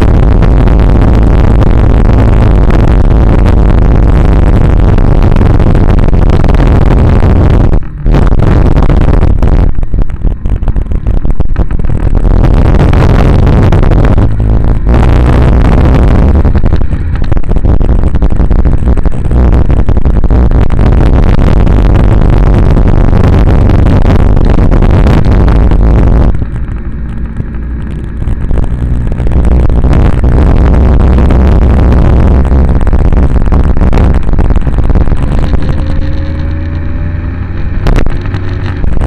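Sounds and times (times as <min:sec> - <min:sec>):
road noise: 0:00.0 - 0:39.0
vehicle engine running: 0:00.0 - 0:39.0
wind noise: 0:00.0 - 0:39.0.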